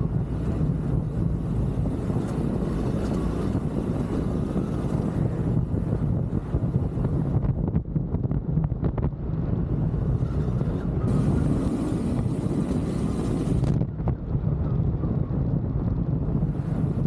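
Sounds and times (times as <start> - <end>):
motorcycle engine drone: 0.0 - 17.0
wind noise on microphone: 0.0 - 17.0.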